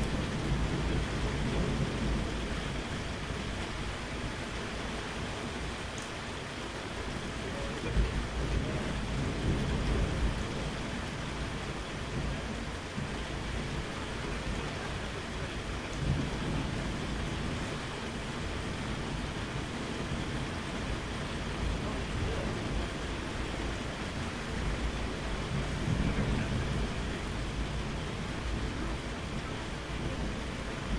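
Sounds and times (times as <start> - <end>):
low thunder rumbling: 0.0 - 5.9, 7.0 - 30.9
steady rain: 0.0 - 30.9.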